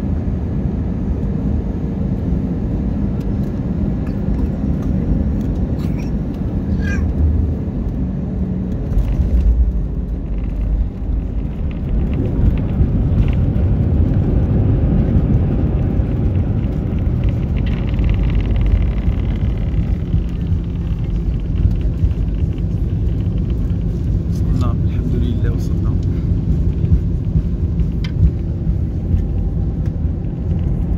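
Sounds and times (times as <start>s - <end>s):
airliner cabin rumble: 0.0s - 30.9s.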